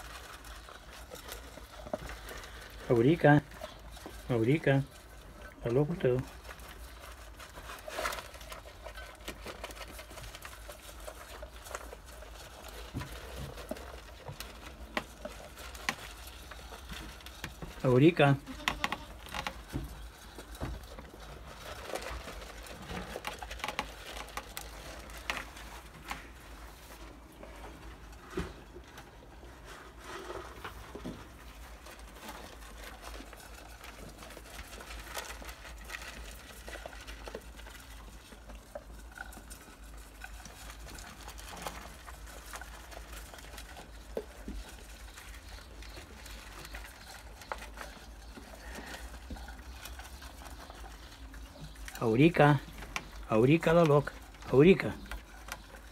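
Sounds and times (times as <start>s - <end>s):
goats crunching pellets: 0.0s - 55.9s.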